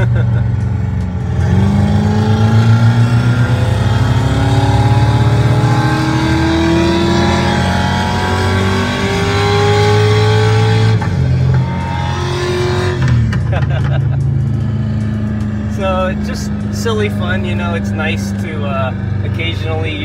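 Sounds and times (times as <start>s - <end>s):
synthetic engine sound through car stereo: 0.0s - 20.0s.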